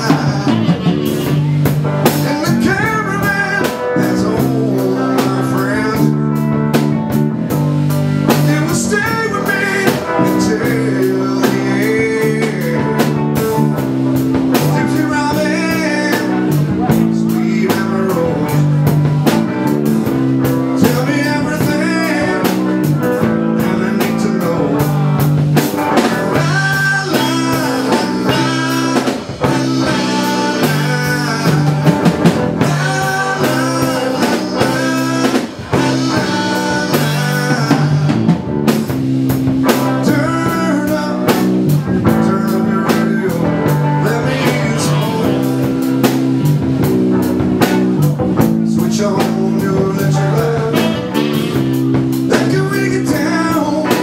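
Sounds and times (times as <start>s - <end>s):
electric guitar: 0.0s - 54.0s
live dance band playing: 0.0s - 54.0s.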